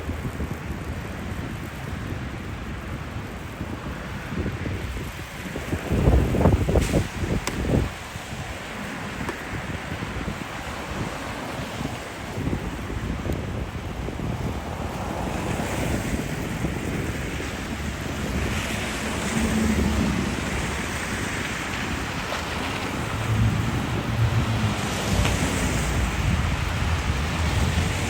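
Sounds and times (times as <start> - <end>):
city traffic rumble: 0.0 - 28.0
wind buffeting microphone: 0.0 - 28.0
vehicles passing: 0.1 - 28.0.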